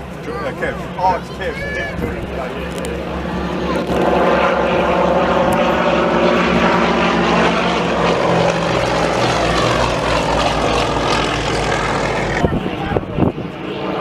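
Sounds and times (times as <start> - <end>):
light aircraft engine running: 0.0 - 14.0.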